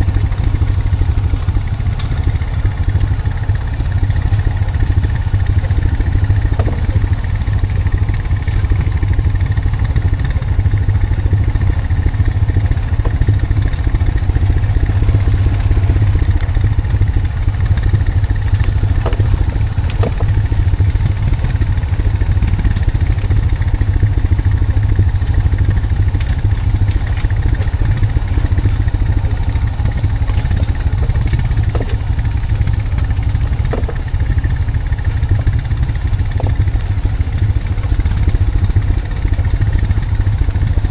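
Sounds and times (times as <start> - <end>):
atv engine running: 0.0 - 40.9
knocks and clatter: 0.0 - 40.9.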